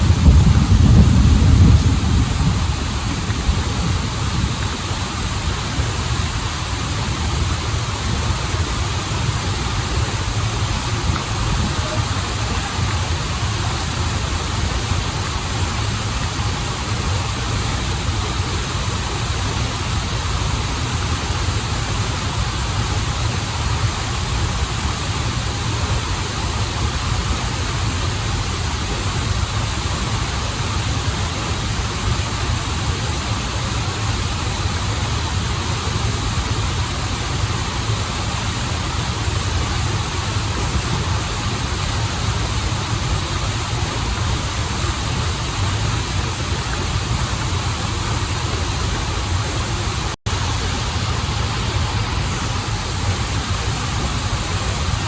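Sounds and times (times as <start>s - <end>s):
stream and waterfall rushing: 0.0s - 55.0s.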